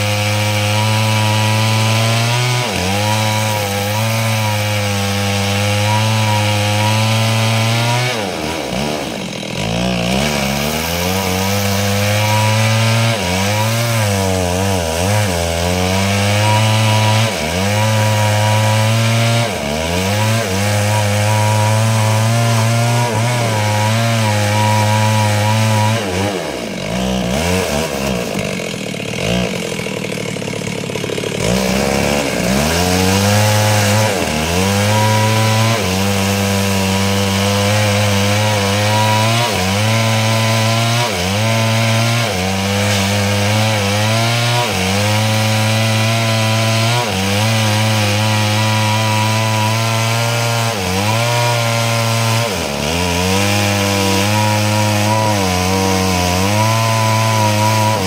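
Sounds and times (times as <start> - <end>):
chainsaw cutting a log: 0.0 - 58.0.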